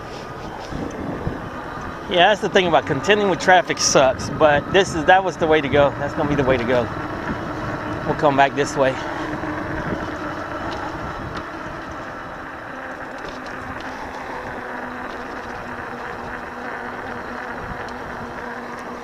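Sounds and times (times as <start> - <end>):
wind and tyres rushing: 0.0 - 19.0.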